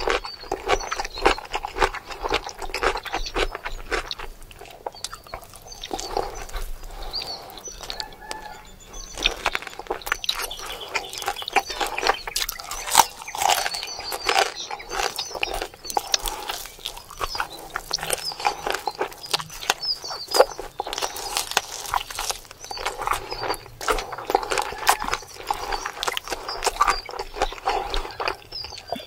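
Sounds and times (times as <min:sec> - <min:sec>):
crunching and mouth clicks: 0:00.0 - 0:29.0
person chewing meat: 0:00.0 - 0:29.0.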